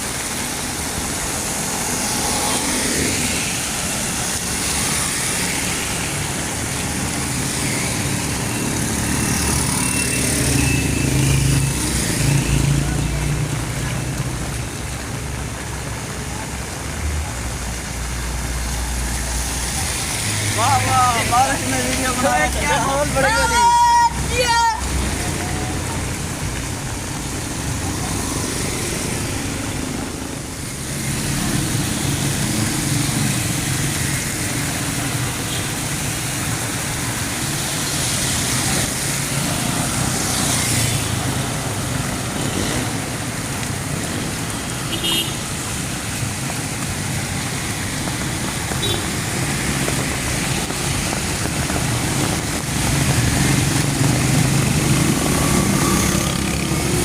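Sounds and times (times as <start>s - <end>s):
car engines passing: 0.0s - 57.0s
heavy rain hiss: 0.0s - 57.0s.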